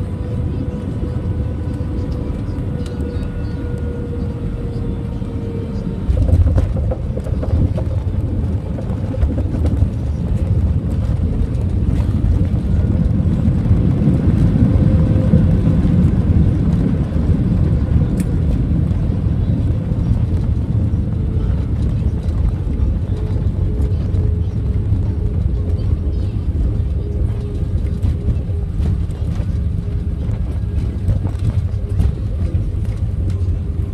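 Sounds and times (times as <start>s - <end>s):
airplane cabin rumble: 0.0s - 33.9s.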